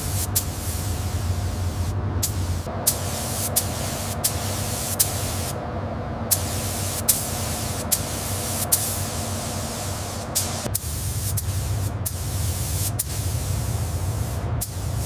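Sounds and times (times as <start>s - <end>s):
spraying hiss: 0.0s - 5.6s, 6.3s - 15.0s
faint steady hum: 0.0s - 15.0s.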